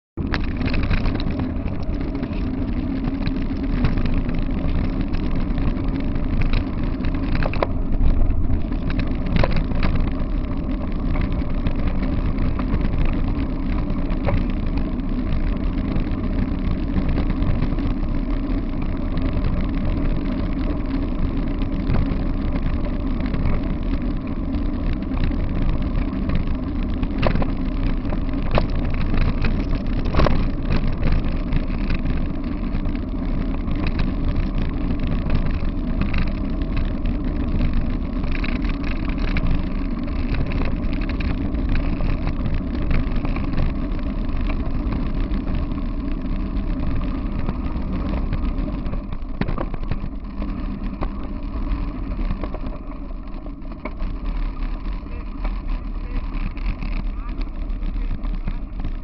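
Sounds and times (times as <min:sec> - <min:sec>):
wheels rumbling over gravel: 0:00.2 - 0:59.0.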